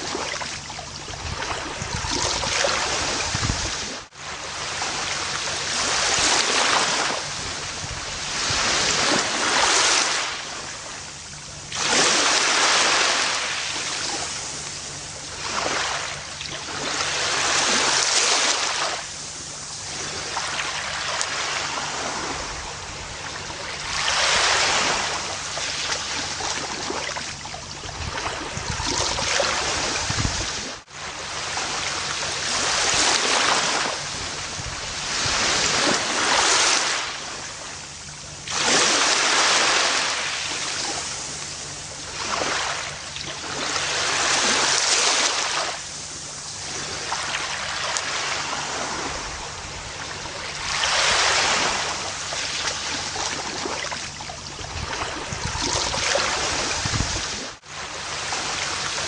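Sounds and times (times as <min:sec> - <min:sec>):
ocean surf on beach: 0:00.0 - 0:59.0.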